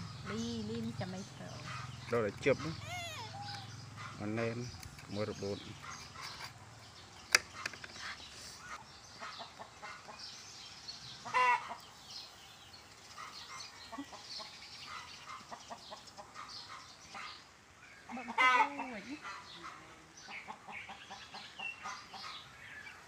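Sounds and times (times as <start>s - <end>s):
chickens clucking: 0.0s - 6.6s, 7.4s - 10.4s, 11.2s - 12.0s, 13.2s - 22.6s.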